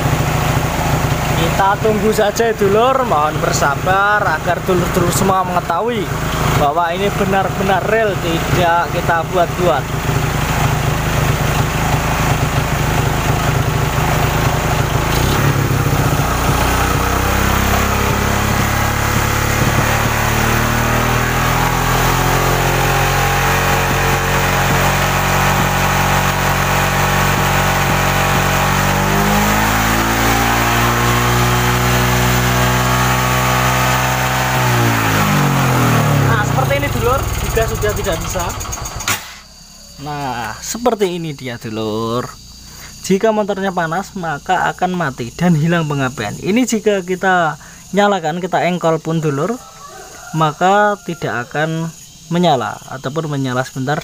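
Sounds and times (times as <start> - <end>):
motorcycle engine idling: 0.0 - 43.3, 44.0 - 48.0.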